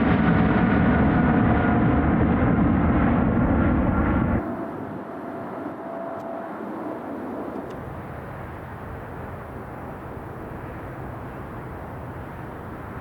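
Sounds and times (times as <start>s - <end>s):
distant jet engine noise: 0.0s - 13.0s
low rumble: 0.0s - 13.0s.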